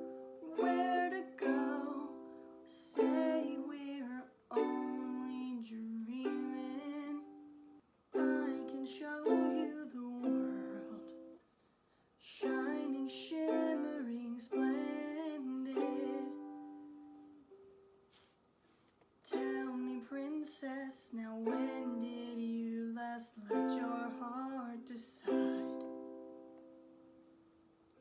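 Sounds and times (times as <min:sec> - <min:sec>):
ukulele chords strummed: 0:00.0 - 0:11.4, 0:12.4 - 0:17.7, 0:19.3 - 0:20.5, 0:21.4 - 0:27.2.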